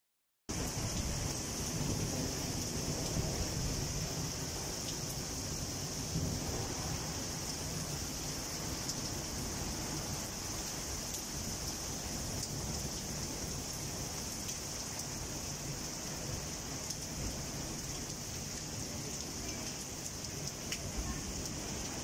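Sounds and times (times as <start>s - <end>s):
heavy rain falling: 0.5s - 22.0s.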